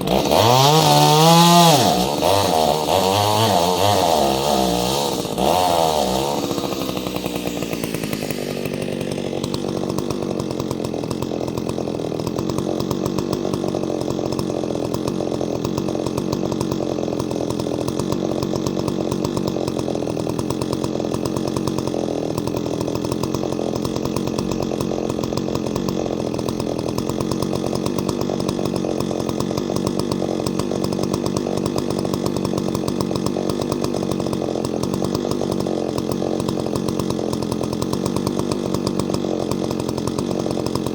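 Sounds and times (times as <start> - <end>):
chainsaw idling: 0.0 - 40.9.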